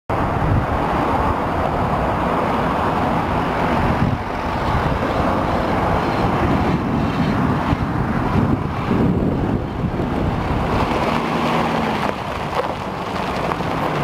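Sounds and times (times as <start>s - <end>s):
truck engine running: 0.1s - 14.0s
tyres rolling on dirt: 0.1s - 14.0s.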